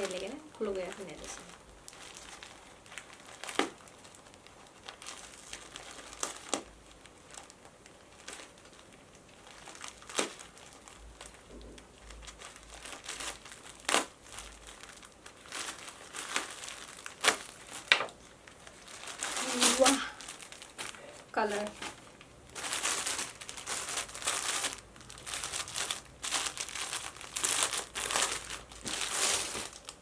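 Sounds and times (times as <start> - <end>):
loud packaging crunches: 0.0 - 30.0
packaging crinkling: 0.0 - 30.0.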